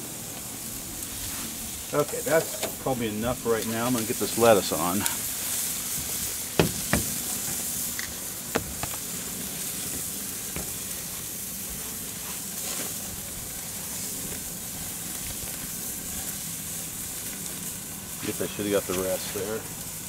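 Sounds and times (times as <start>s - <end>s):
food sizzling on a grill: 0.0s - 20.0s.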